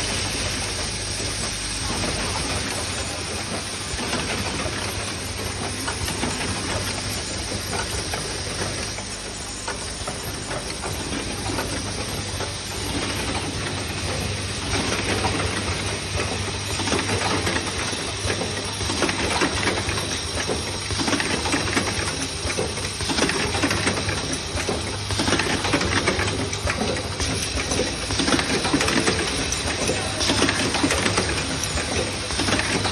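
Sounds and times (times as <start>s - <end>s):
rapid mechanical clatter: 0.0s - 32.9s.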